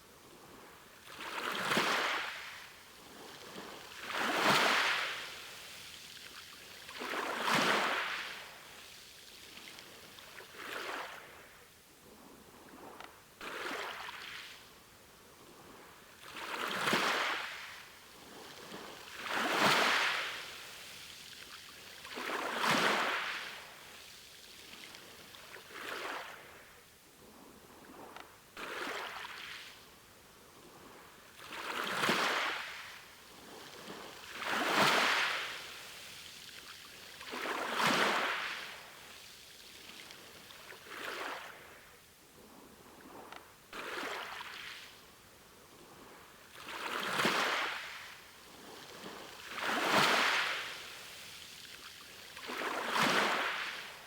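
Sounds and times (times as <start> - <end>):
small sea waves washing in: 0.0 - 54.0.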